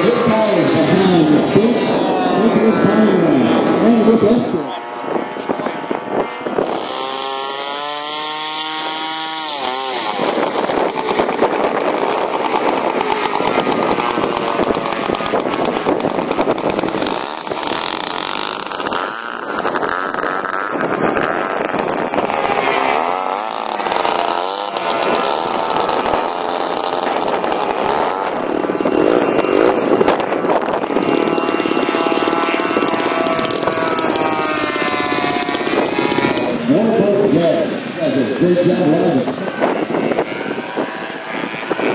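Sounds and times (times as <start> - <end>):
model plane engines passing: 0.0 - 41.9.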